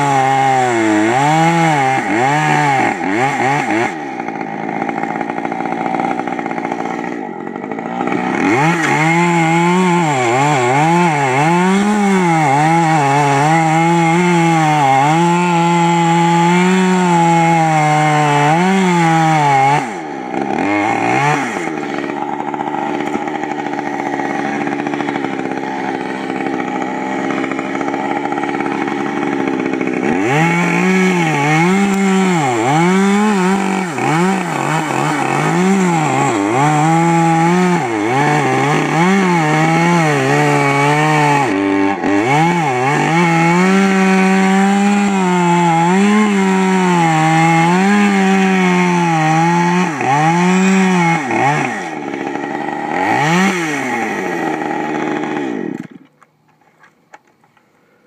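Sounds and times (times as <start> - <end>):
chainsaw cutting tree trunk: 0.0 - 56.4
chainsaw running: 0.0 - 58.0.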